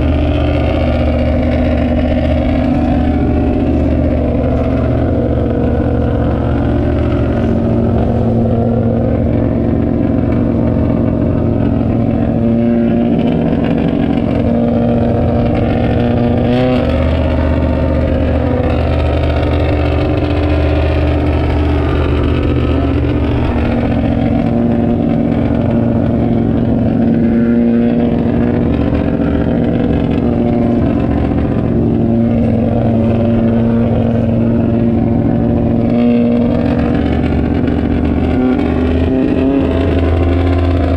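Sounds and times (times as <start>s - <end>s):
race car engines droning: 0.0s - 40.9s.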